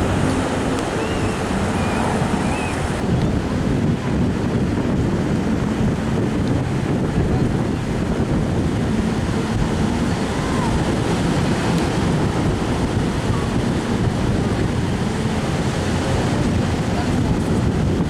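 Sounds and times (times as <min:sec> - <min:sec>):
beach surf: 0:00.0 - 0:18.0
wind buffeting microphone: 0:00.0 - 0:18.0.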